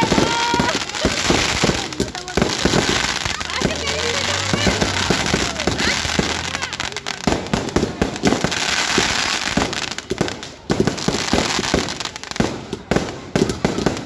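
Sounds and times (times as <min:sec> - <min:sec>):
fireworks crackling and banging: 0:00.0 - 0:14.0
fountain firework hissing: 0:00.0 - 0:14.0.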